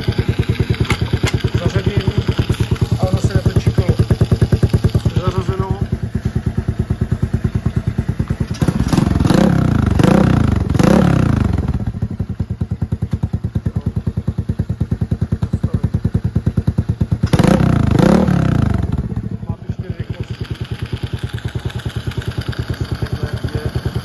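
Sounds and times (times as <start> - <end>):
dirt bike engine idling and revving: 0.0 - 24.0.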